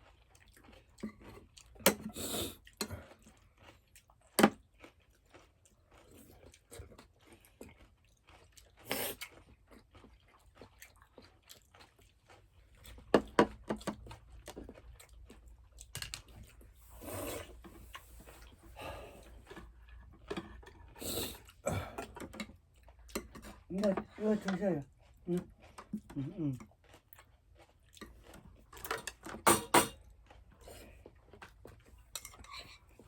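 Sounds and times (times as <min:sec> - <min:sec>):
person chewing crunchy food: 0:00.0 - 0:28.8, 0:30.0 - 0:33.0.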